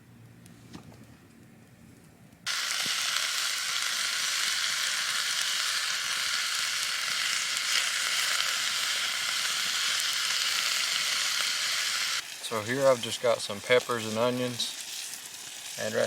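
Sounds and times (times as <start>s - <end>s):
vegetables sizzling in a pan: 2.5s - 16.0s.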